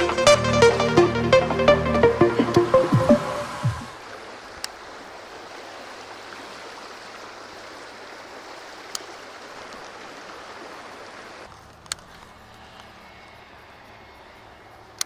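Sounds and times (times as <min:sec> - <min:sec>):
river water rushing: 0:00.0 - 0:12.6.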